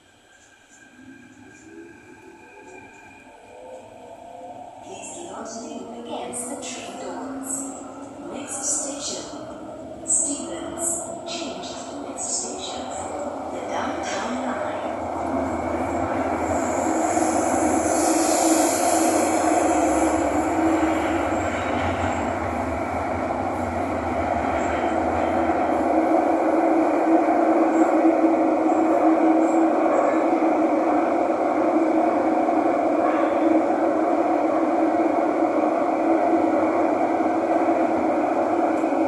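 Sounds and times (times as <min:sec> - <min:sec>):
train rumble and hum: 0:00.0 - 0:39.0.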